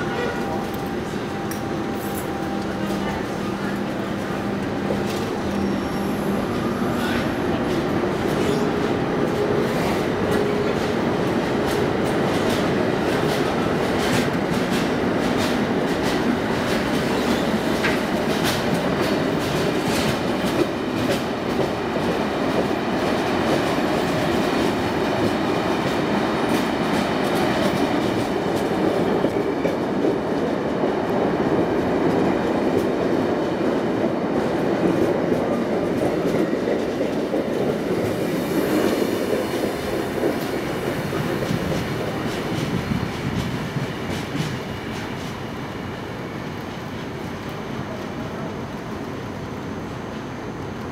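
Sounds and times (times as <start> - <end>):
train rumbling past: 0.0 - 50.9.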